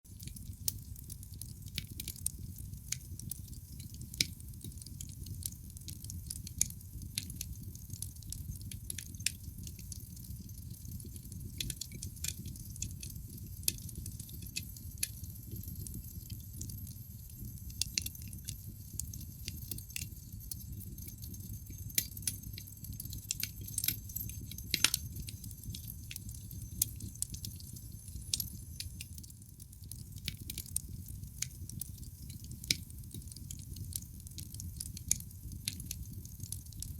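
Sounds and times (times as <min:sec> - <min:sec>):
fire crackling pops and snaps: 0:00.1 - 0:36.9.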